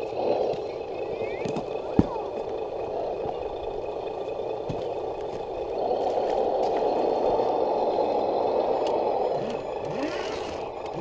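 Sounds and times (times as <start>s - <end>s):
electric motor whirring: 0.0s - 11.0s.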